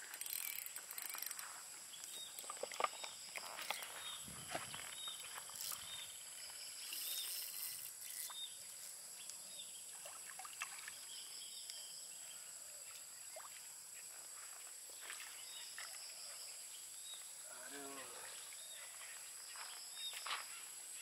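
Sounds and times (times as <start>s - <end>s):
tropical insects droning: 0.0s - 21.0s.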